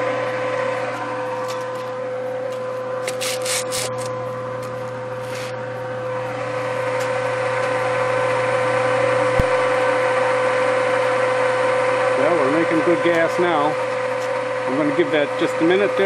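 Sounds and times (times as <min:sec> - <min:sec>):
machine hum with whine: 0:00.0 - 0:16.0.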